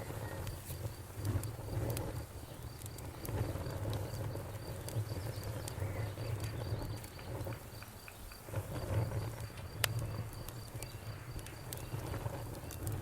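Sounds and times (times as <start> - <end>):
bonfire crackling: 0.0 - 13.0
crickets chirping: 0.0 - 13.0.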